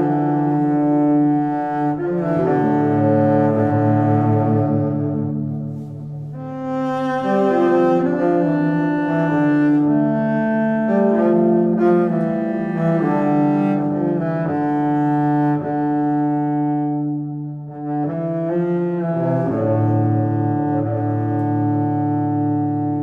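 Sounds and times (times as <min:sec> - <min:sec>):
music of long low notes: 0:00.0 - 0:23.0.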